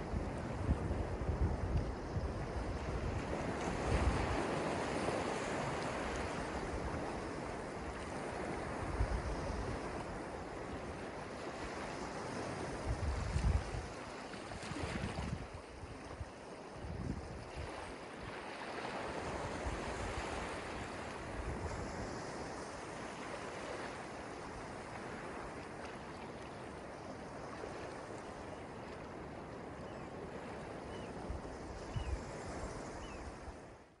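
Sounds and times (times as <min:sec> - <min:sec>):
small waves washing over sand: 0:00.0 - 0:34.0.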